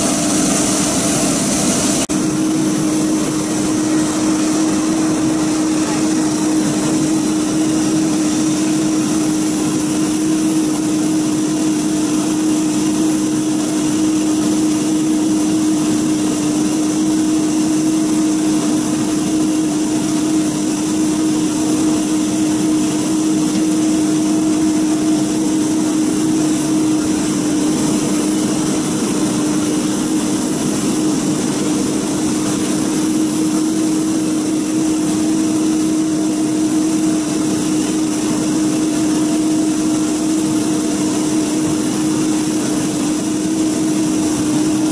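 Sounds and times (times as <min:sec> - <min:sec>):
jet engines whining: 0:00.0 - 0:44.9.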